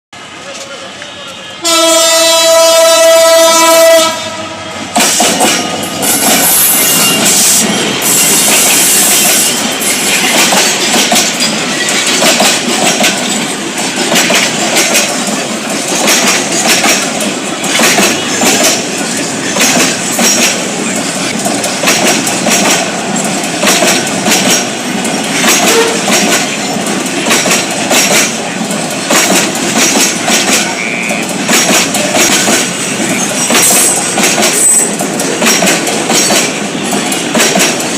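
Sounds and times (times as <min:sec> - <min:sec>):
freight train wagons rattling: 0:00.2 - 0:37.9
wheels clacking over rail joints: 0:04.9 - 0:37.9.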